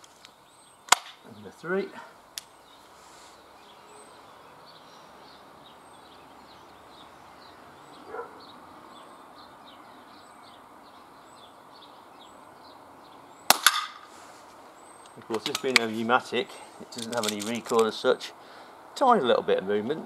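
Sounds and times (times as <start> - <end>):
outdoor background hiss: 0.0 - 20.0
small birds chirping: 0.0 - 20.0.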